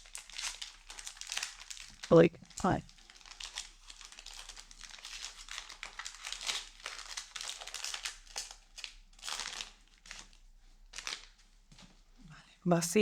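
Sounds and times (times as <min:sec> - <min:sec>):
wrapper crinkling: 0:00.0 - 0:11.5.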